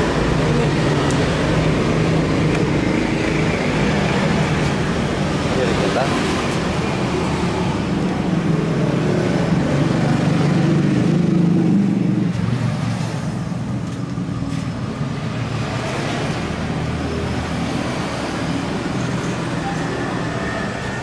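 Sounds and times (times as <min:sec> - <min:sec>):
passing vehicle engine and road noise: 0:00.0 - 0:21.0
traffic rumble: 0:00.0 - 0:21.0.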